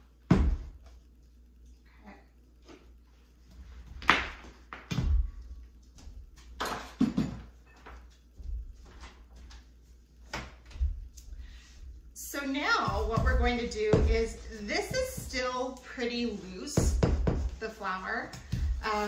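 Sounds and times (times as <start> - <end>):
footsteps across floor: 2.7 - 6.7, 7.4 - 19.0.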